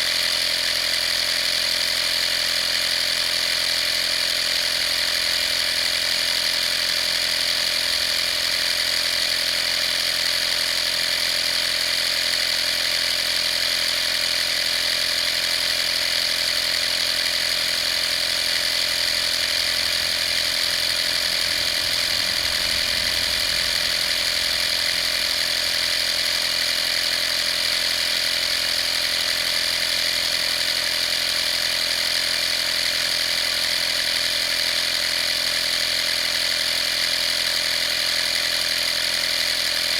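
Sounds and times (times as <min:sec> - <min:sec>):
air compressor whining: 0:00.0 - 0:39.9.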